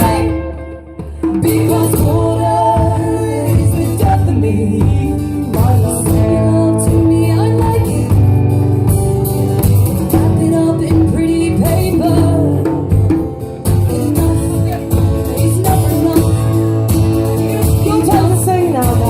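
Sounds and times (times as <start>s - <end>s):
person singing: 0.0s - 8.3s, 10.0s - 13.2s, 13.8s - 19.0s
drums and cymbals: 0.0s - 19.0s
guitar: 0.0s - 19.0s.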